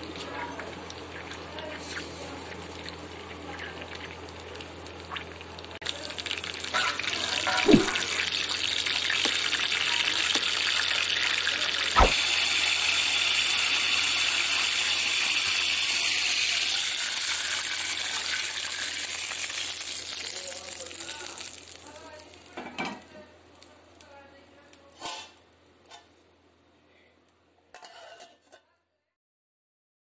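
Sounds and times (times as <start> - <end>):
seeds sizzling in hot oil: 0.0 - 5.1, 5.8 - 26.0.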